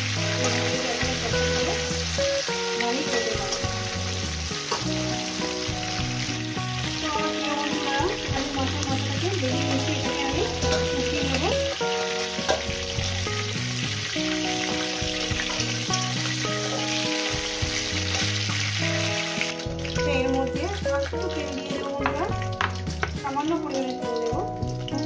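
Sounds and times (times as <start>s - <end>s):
background keyboard music: 0.0s - 25.0s
fish sizzling in hot oil: 0.0s - 25.0s.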